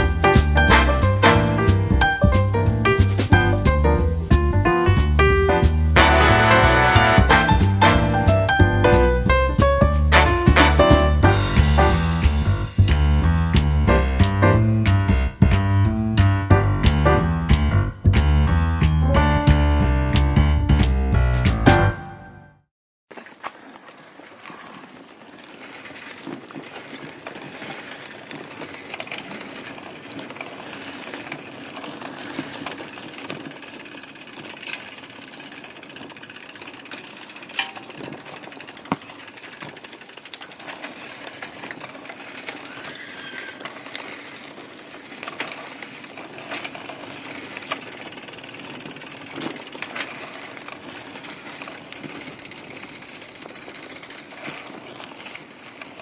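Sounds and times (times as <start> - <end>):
bicycle rattling on road: 0.0 - 21.6, 23.1 - 56.0.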